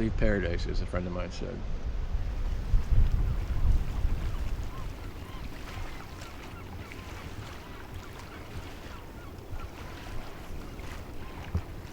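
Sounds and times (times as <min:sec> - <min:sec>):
water around a boat: 0:00.0 - 0:11.9
wind: 0:00.0 - 0:11.9.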